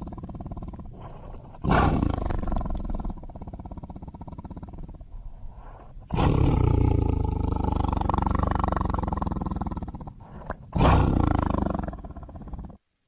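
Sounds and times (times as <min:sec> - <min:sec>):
tiger growling: 0:00.0 - 0:12.8
tiger roaring: 0:00.0 - 0:12.8.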